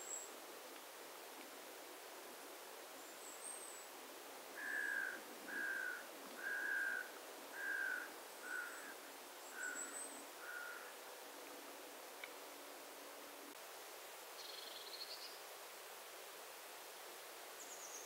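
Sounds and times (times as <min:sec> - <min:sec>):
outdoor hiss: 0:00.0 - 0:18.0.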